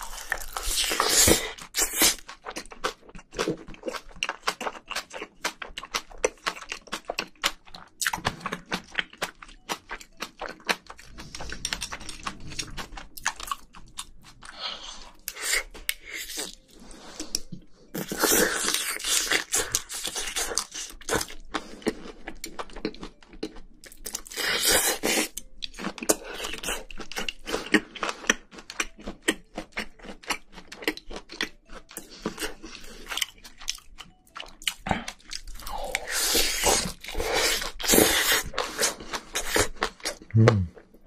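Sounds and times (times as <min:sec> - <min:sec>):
chewing and crunching food: 0:00.0 - 0:41.0.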